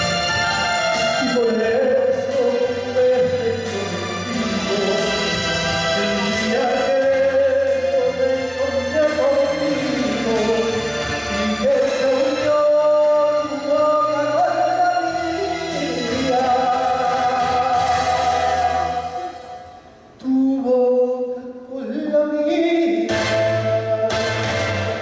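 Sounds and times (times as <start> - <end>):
instrumental accompaniment: 0.0 - 20.2, 23.0 - 25.0
man singing into microphone: 0.7 - 25.0.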